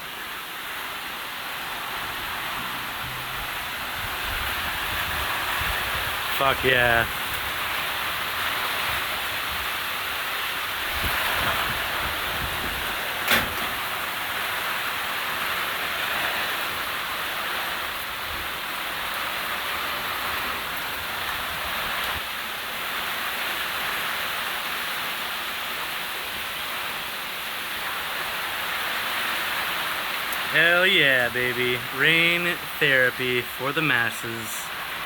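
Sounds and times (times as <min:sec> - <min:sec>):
heavy rain pattering: 0:00.0 - 0:35.0.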